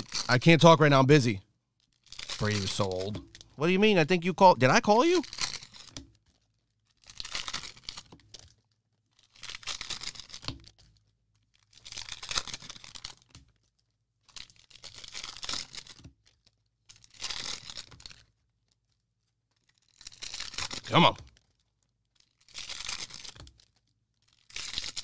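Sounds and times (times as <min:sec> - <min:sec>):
plastic wrappers crumpling and tearing: 0:00.0 - 0:25.0.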